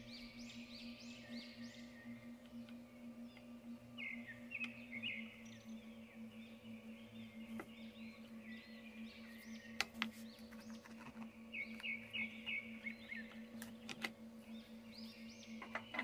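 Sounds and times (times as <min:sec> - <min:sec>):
bird-like chirps: 0:00.0 - 0:16.0
quiet ambient music: 0:00.0 - 0:16.0
steady low hum: 0:00.0 - 0:16.0.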